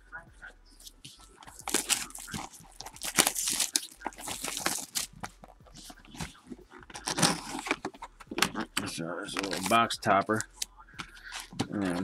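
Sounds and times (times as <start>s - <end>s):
cardboard handled: 0.9s - 12.0s
plastic wrap crinkling and tearing: 1.1s - 12.0s.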